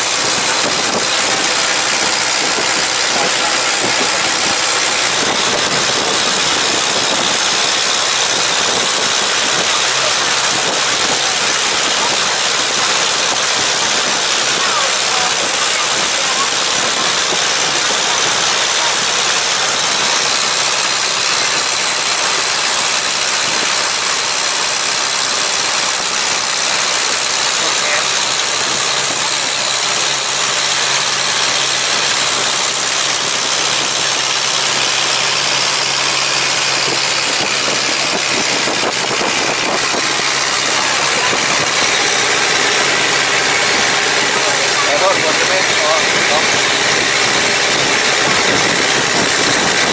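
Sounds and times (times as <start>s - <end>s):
engine running with low hum: 0.0s - 49.9s
loud constant hiss: 0.0s - 49.9s.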